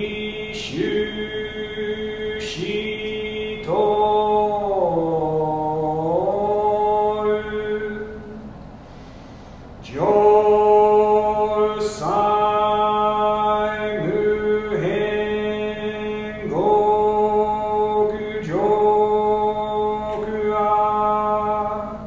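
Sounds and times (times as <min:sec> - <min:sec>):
man chanting: 0:00.0 - 0:08.4, 0:09.8 - 0:22.0.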